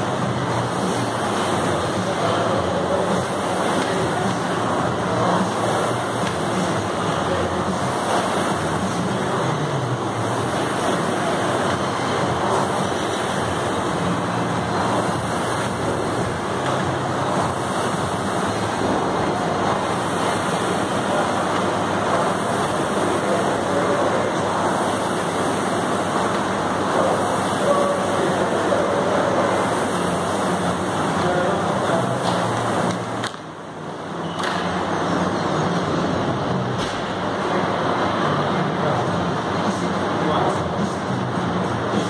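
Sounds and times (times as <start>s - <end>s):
rowing machine fan whooshing: 0.0s - 42.0s.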